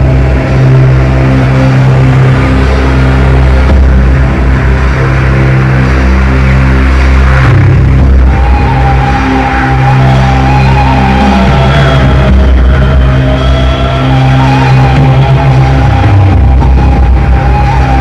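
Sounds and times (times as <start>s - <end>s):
deep low drone: 0.0s - 18.0s
slow background music: 0.0s - 18.0s.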